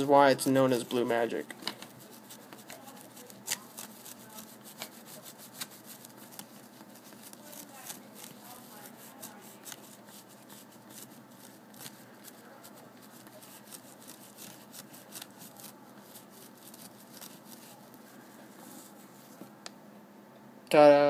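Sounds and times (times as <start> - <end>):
cloth rubbing on metal buckle: 1.7 - 19.4.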